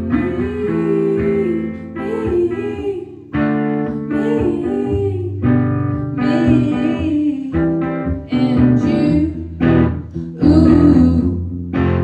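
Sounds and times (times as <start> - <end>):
woman singing: 0.0 - 11.6
guitar-led rock band: 0.0 - 12.0.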